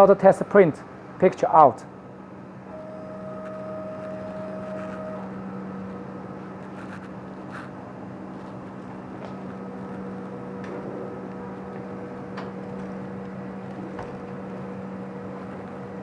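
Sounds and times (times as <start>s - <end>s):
printer machine hum: 2.5s - 16.0s
motor whine: 2.6s - 16.0s.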